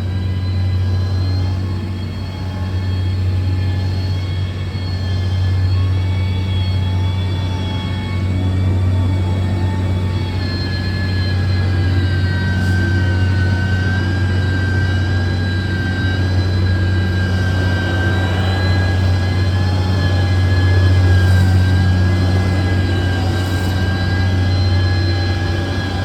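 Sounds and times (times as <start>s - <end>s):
heavy machine diesel engine: 0.0s - 26.0s.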